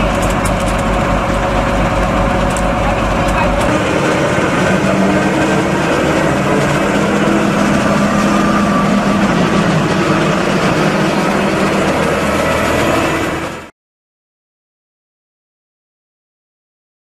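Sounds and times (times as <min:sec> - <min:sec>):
combine harvester engine running: 0:00.0 - 0:13.7.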